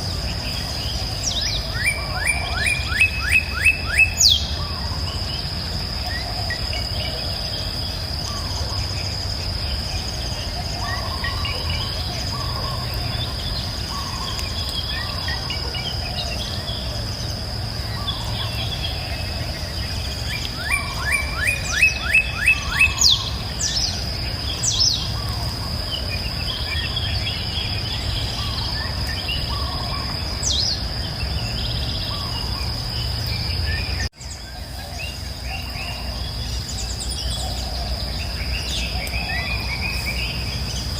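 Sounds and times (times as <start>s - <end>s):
bird chirps: 0.0s - 40.9s
high insect drone: 0.0s - 40.9s.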